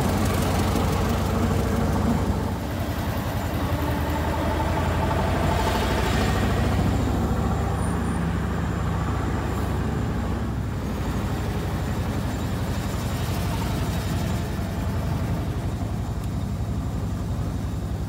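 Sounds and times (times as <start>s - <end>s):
old car engine running: 0.0s - 18.0s.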